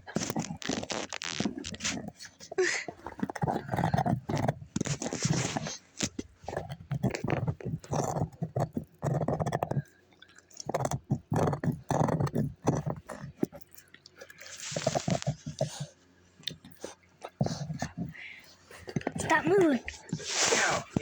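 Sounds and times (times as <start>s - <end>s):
dog chewing and crunching: 0.0s - 21.0s.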